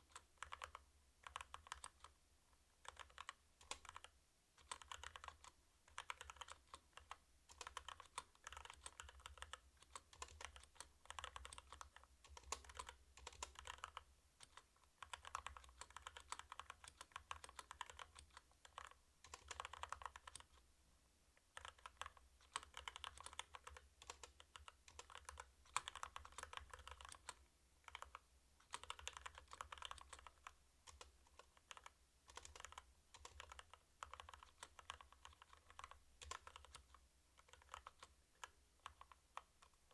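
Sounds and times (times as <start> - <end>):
mechanical keyboard typing: 0.0 - 2.2, 2.8 - 20.6, 21.4 - 39.9.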